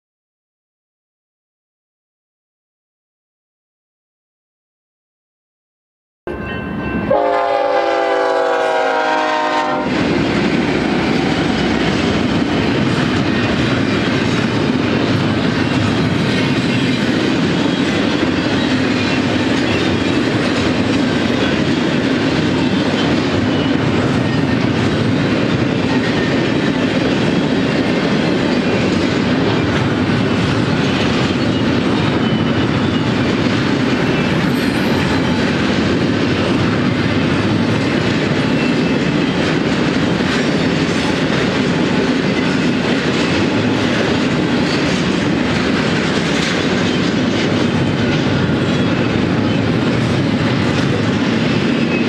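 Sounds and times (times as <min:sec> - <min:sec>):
freight train wheels rumbling: 0:06.3 - 0:52.0.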